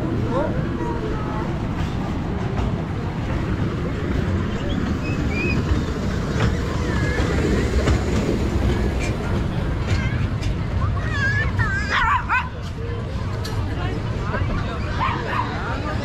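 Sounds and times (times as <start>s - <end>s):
ride train rumbling on track: 0.0s - 16.0s.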